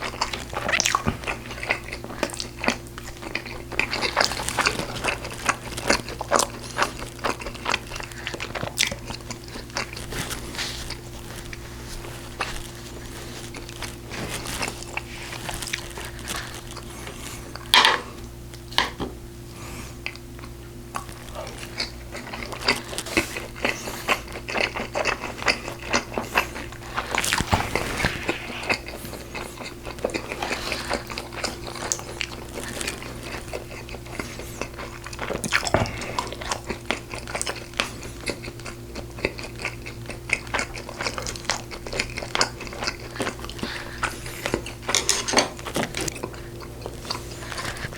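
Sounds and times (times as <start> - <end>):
wet chewing and smacking: 0.0 - 17.8, 20.0 - 47.9
faint steady hum: 0.0 - 47.9.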